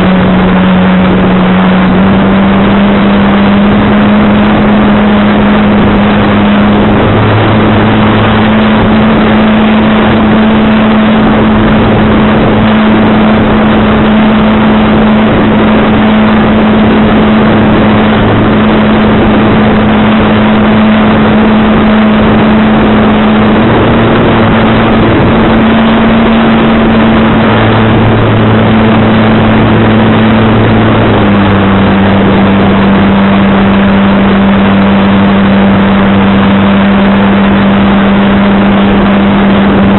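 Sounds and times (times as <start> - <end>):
low hum: 0.0 - 39.9
wind blowing on microphone: 0.0 - 39.9.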